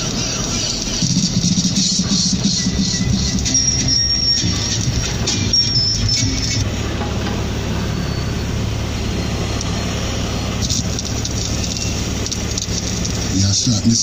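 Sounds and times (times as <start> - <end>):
van engine idling: 0.0 - 14.0.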